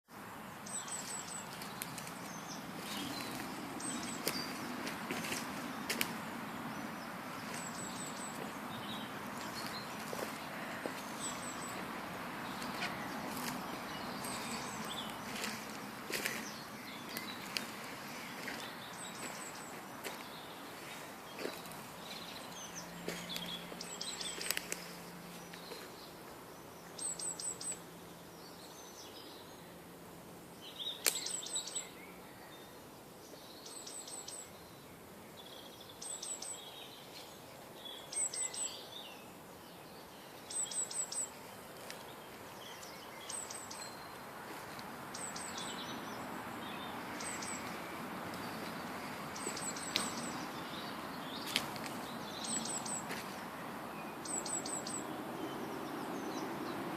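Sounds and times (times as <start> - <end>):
birds chirping: 0.1 - 56.9.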